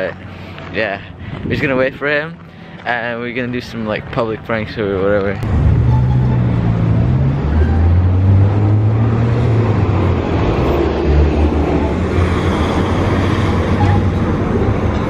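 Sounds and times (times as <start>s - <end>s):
car and bus engines passing: 0.0s - 15.0s.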